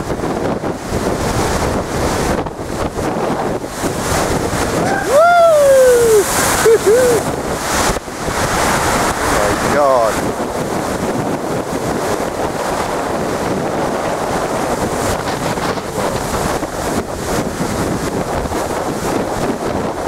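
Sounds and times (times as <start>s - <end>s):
storm sea breaking on wall: 0.0s - 20.0s
wind buffeting microphone: 0.0s - 20.0s.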